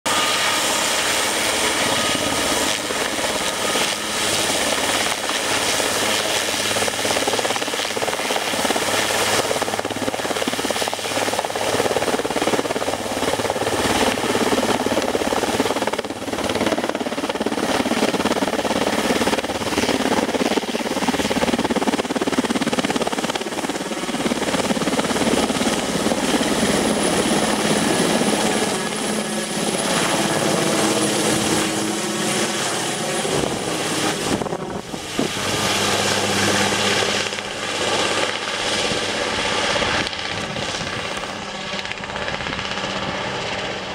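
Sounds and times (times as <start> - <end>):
helicopter rotor noise: 0.0 - 43.9
helicopter turbine whine: 0.0 - 43.9.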